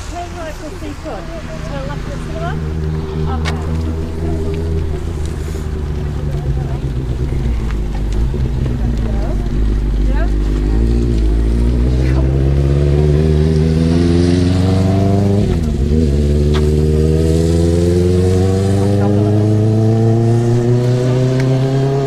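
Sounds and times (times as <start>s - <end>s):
vehicle engine accelerating: 0.0s - 22.0s.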